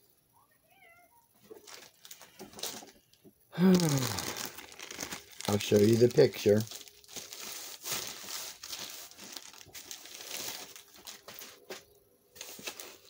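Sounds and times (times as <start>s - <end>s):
plastic bag crinkling: 1.4s - 13.0s.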